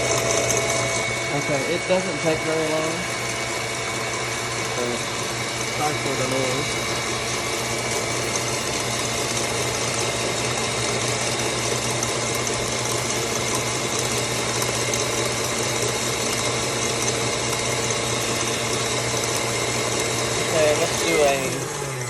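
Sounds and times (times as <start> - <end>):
electric mixer whipping: 0.0 - 22.0.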